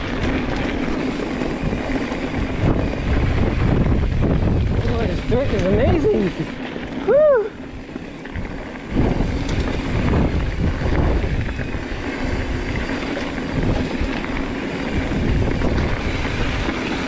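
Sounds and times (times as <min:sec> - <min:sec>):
mountain bike rumbling and rattling: 0:00.0 - 0:17.0
wind buffeting microphone: 0:00.0 - 0:17.0.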